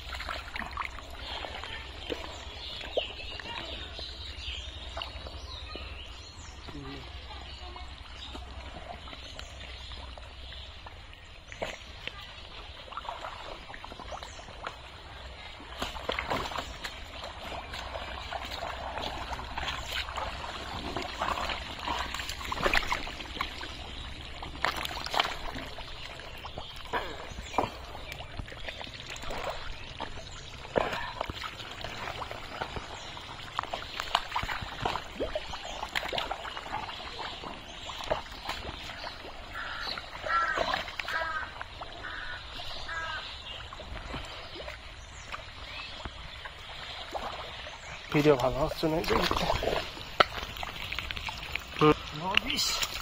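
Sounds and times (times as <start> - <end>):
mud squelching and water splashing: 0.0 - 53.0.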